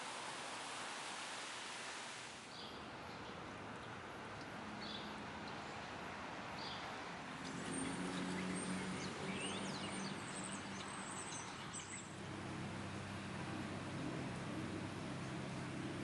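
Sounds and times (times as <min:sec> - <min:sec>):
steady street hiss: 0:00.0 - 0:16.0.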